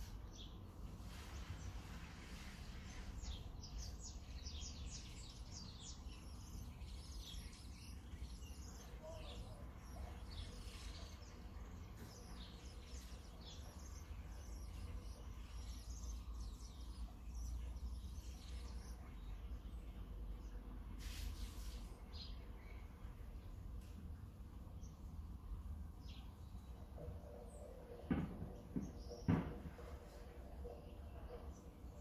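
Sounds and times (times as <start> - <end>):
birds chirping and twittering: 0.0 - 32.0.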